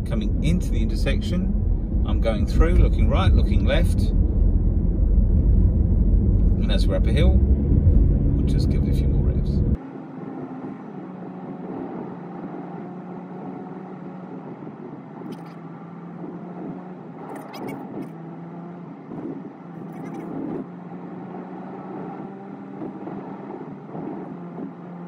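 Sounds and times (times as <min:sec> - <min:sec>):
car engine hum from cabin: 0:00.0 - 0:25.0.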